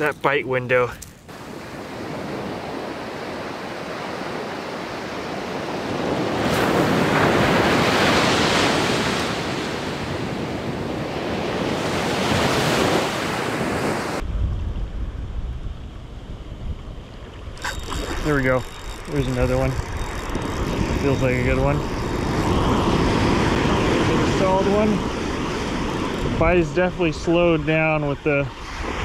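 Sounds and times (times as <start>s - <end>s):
ocean surf breaking: 1.3s - 14.2s, 17.6s - 29.0s
wind buffeting microphone: 1.3s - 29.0s.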